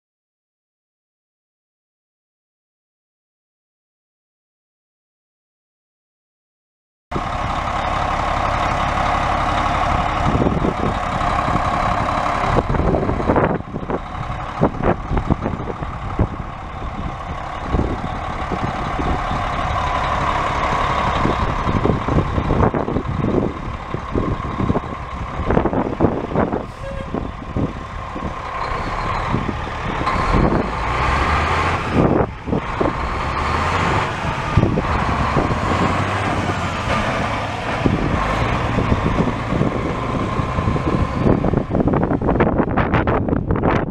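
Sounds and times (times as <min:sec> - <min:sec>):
diesel truck engine running: 0:07.1 - 0:43.9.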